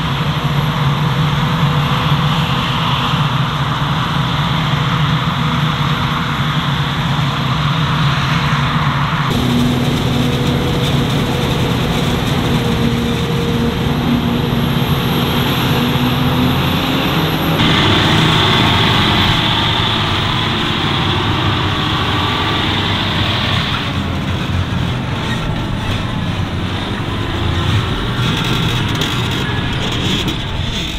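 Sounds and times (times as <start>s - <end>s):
heavy farm machinery running: 0.0s - 30.9s.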